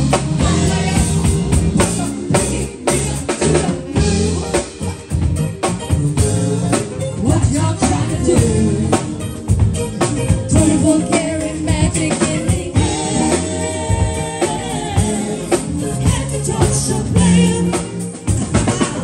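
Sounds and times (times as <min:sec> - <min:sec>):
women singing: 0:00.0 - 0:04.8, 0:07.2 - 0:09.7, 0:10.3 - 0:19.0
drum kit: 0:00.0 - 0:19.0
electric bass: 0:00.0 - 0:19.0
electric guitar: 0:00.0 - 0:19.0.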